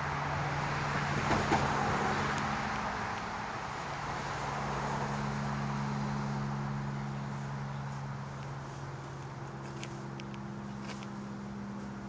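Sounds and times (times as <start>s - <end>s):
propeller airplane flying overhead: 0.0s - 12.0s.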